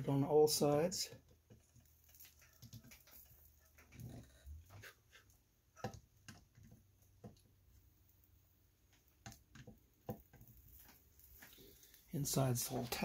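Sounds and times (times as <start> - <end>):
faint clicks and taps: 1.1 - 12.1.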